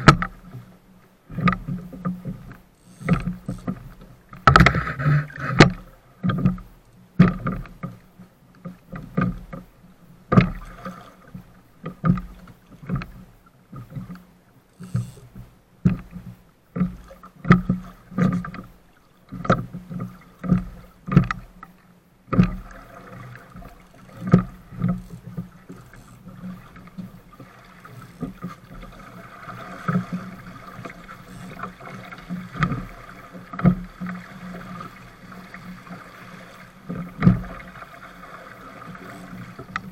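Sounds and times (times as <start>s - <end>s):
water rushing along hull: 0.0s - 39.9s
wind: 0.0s - 39.9s.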